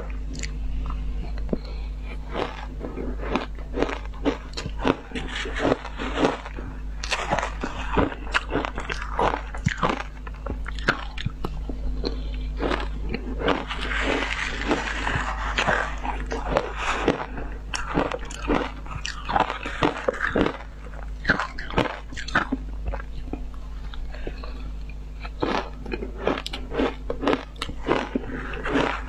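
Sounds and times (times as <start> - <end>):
low hum: 0.0 - 29.0
ice crunching in mouth: 2.2 - 11.4, 12.0 - 24.5, 25.2 - 29.0.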